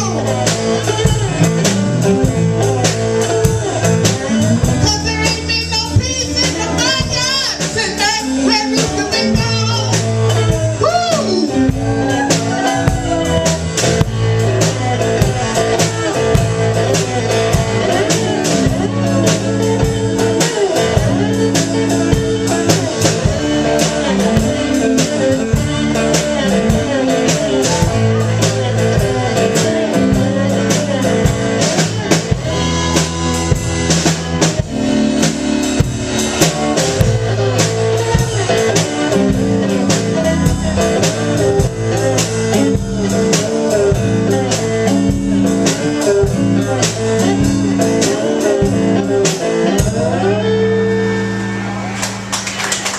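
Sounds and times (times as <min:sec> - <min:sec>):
blues band playing: 0:00.0 - 0:52.9.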